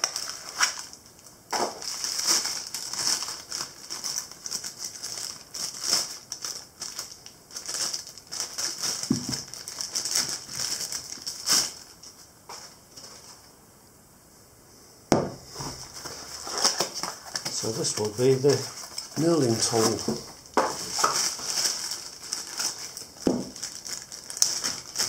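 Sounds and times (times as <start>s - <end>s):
plastic wrapping crinkling: 0.0s - 13.5s, 15.5s - 25.0s.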